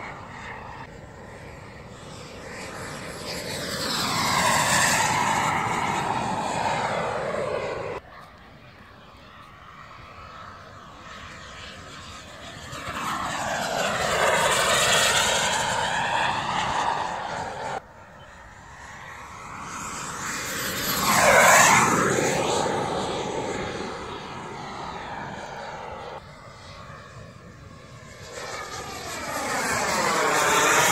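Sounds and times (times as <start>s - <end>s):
model jet whine flying past: 0.0s - 30.9s.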